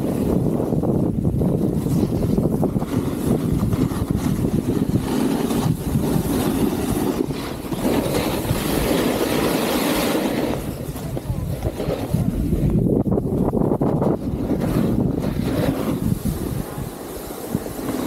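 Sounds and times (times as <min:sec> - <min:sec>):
snowboards sliding over snow: 0:00.0 - 0:18.0
wind rushing over microphone: 0:00.0 - 0:18.0.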